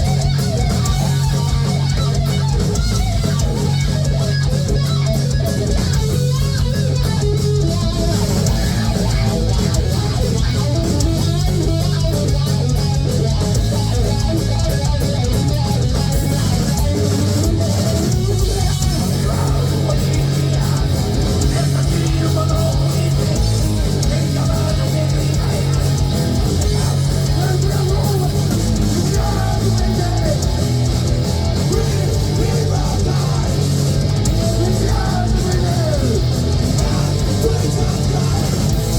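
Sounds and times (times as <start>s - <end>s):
bass guitar: 0.0s - 38.9s
drums: 0.0s - 38.9s
electric guitars: 0.0s - 38.9s.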